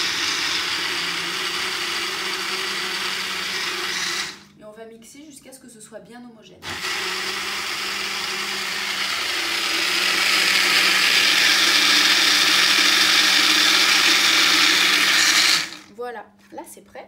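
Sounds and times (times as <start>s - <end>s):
blender running: 0.0s - 4.5s, 6.6s - 15.9s.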